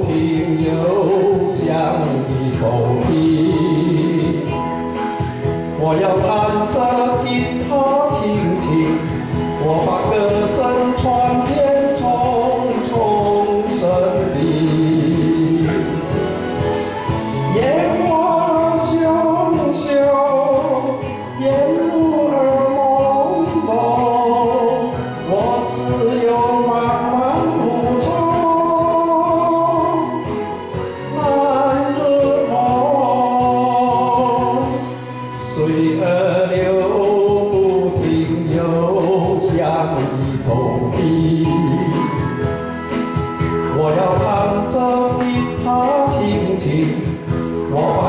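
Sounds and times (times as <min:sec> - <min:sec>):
instrumental accompaniment: 0:00.0 - 0:48.0
man singing a ballad: 0:00.0 - 0:48.0.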